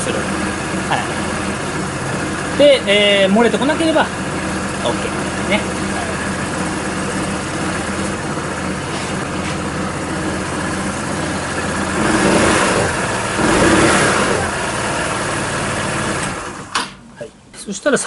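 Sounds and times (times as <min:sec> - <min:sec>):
scooter engine idling: 0:00.0 - 0:16.8.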